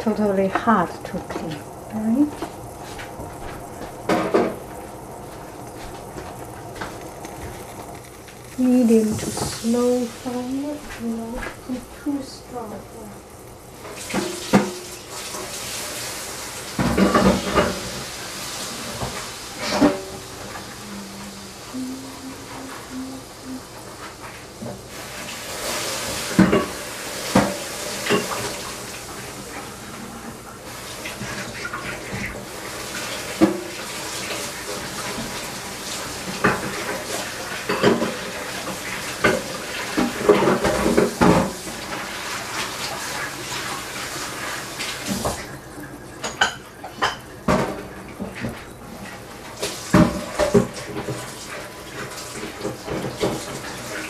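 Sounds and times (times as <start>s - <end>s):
tap running: 0.0s - 15.7s, 16.7s - 51.3s.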